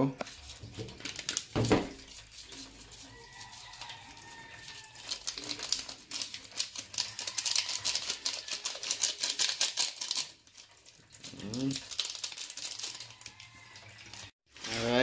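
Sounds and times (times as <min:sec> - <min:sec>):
seasoning packet shaken: 0:00.2 - 0:14.3.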